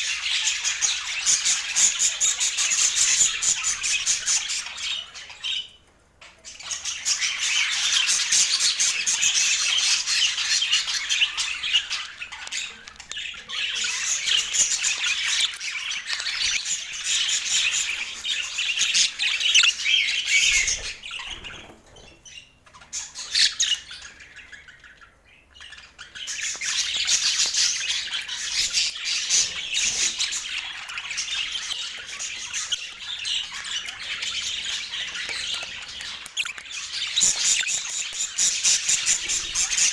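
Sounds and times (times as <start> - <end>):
budgerigars chattering: 0.0 - 5.7, 6.5 - 39.9.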